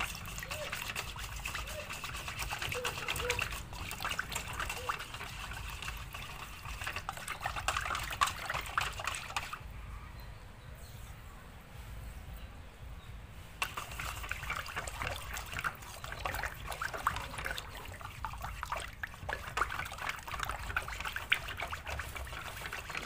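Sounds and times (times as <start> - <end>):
chopsticks stirring batter in bowl: 0.0 - 9.6, 13.6 - 23.0.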